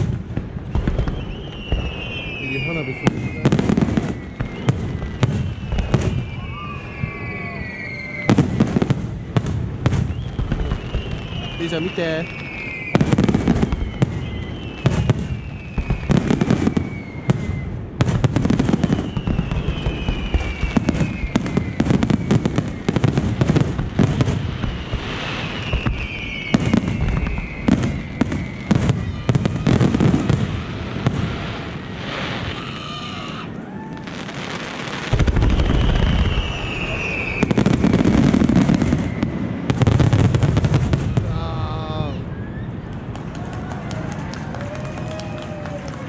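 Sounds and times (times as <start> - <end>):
fireworks bangs and crackling: 0.0 - 46.0
fireworks falling whistles: 0.0 - 46.0.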